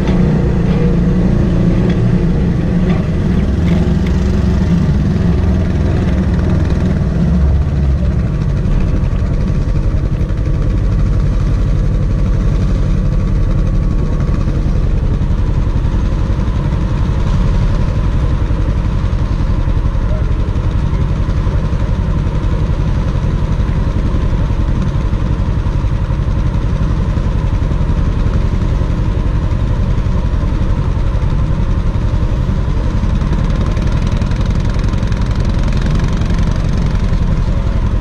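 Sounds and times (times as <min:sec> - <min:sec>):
utility vehicle engine running: 0:00.0 - 0:38.0.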